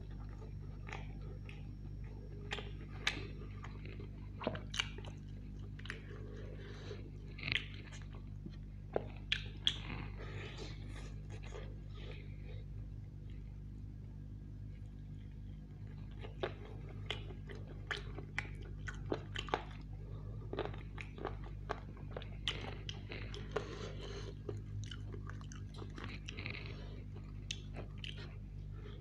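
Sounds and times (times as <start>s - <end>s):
chewing and crunching chicken: 0.0s - 29.0s.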